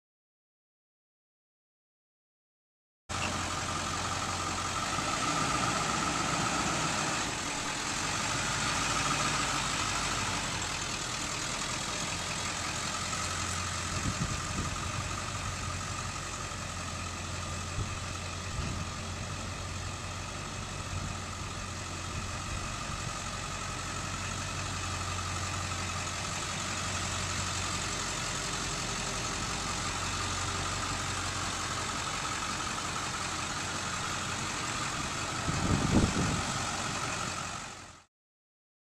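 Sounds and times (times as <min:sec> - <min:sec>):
diesel engine idling: 0:03.1 - 0:38.1.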